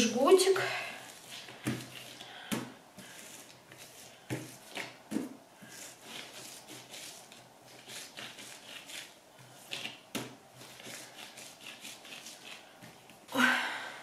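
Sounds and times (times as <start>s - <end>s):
dough rolling soft swishing: 0.0s - 13.3s.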